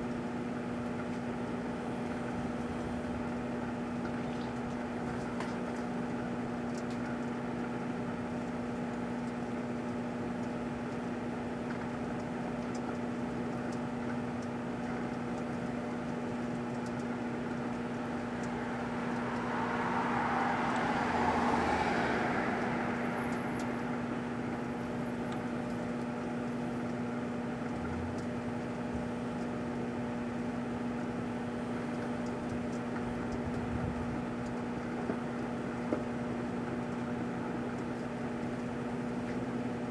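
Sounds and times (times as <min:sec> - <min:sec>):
microwave oven humming: 0:00.0 - 0:39.9.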